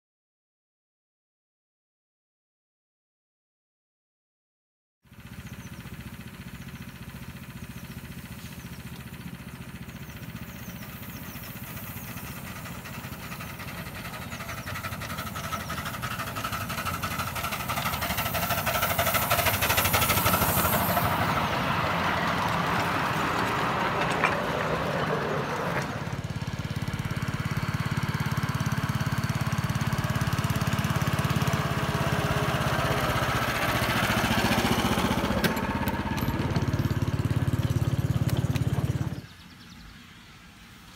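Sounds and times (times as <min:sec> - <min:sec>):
miniature train engine passing: 0:05.1 - 0:39.3.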